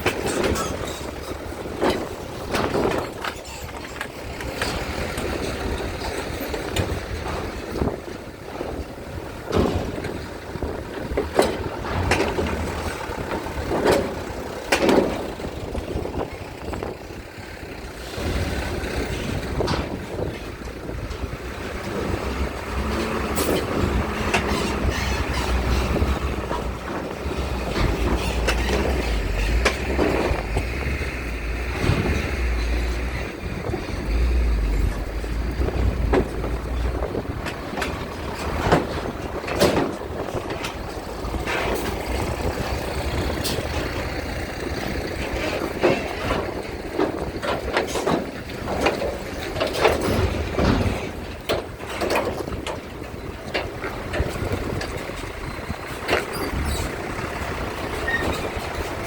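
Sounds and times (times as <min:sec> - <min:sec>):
knocks and clanks: 0:00.0 - 0:17.0, 0:18.0 - 0:59.0
vehicle and ship engine noise: 0:00.0 - 0:59.0
wind buffeting microphone: 0:00.0 - 0:59.0.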